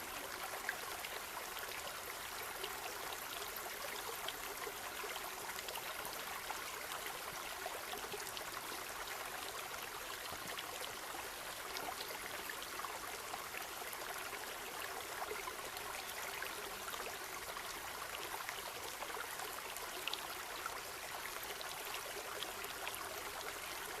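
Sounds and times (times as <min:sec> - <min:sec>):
stream babbling over stones: 0:00.0 - 0:24.0.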